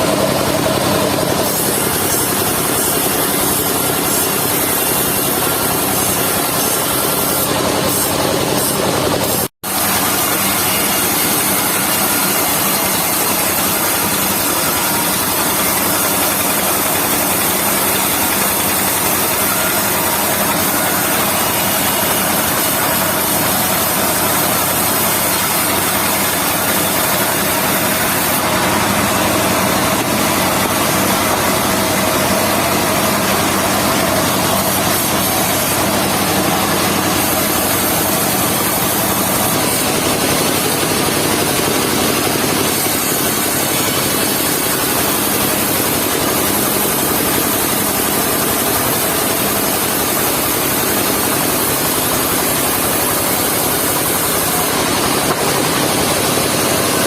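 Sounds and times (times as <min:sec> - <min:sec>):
circular saw blade spinning: 0:00.0 - 0:57.0
sawmill engine running: 0:00.0 - 0:57.0.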